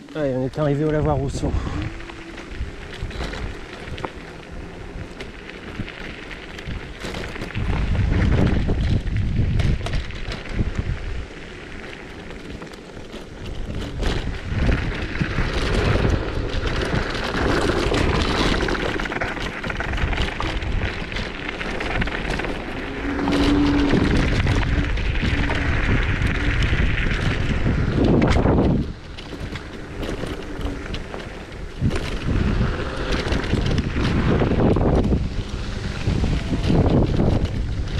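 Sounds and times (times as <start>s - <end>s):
tyres crunching over gravel: 0.0s - 37.9s
wind buffeting microphone: 0.0s - 37.9s.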